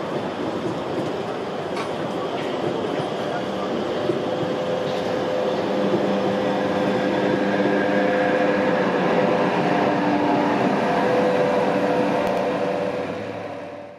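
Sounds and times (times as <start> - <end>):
train wheels rolling on rails: 0.0 - 13.9.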